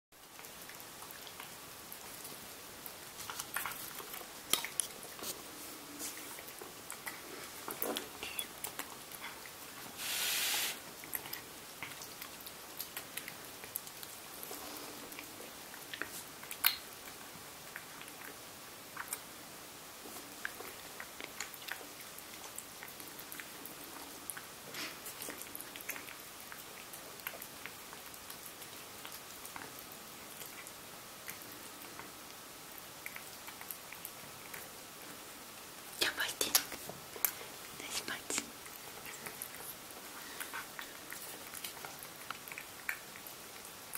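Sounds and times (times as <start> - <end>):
cat eating noisily: 0.2 - 43.9.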